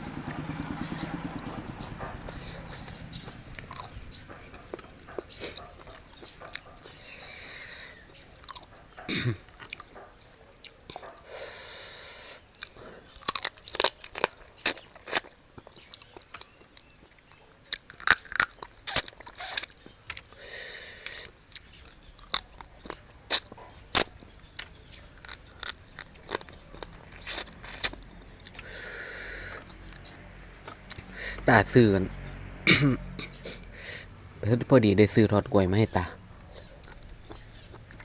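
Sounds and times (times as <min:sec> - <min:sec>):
chewing and crunching: 0:00.0 - 0:38.0.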